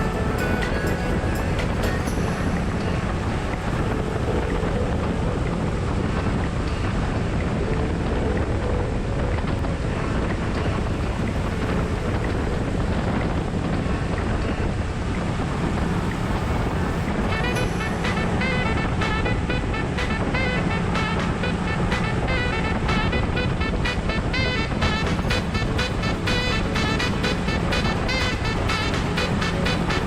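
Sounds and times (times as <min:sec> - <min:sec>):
boat motor running: 0:00.0 - 0:30.0
wind buffeting microphone: 0:00.0 - 0:30.0.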